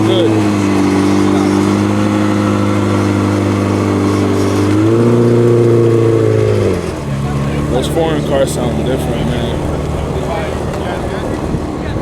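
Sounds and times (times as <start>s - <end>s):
sports car engine running: 0.0s - 12.0s.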